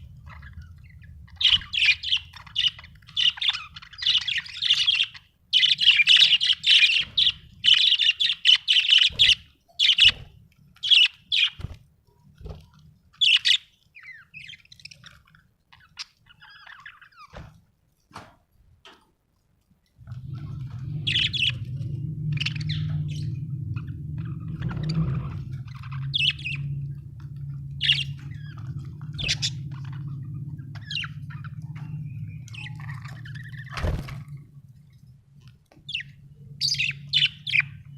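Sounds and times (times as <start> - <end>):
budgerigars chirping: 0.0 - 11.8, 13.2 - 17.3, 20.3 - 34.0, 35.9 - 37.9
low hum: 0.0 - 14.8, 19.9 - 37.9.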